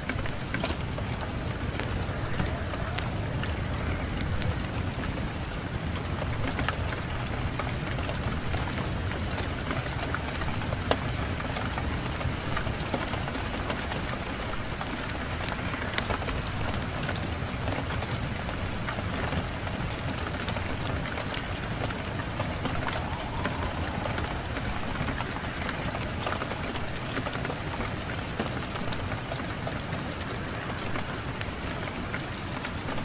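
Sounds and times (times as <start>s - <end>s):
fireplace fire crackling: 0.0s - 33.0s
low rumble of wind: 0.0s - 33.0s.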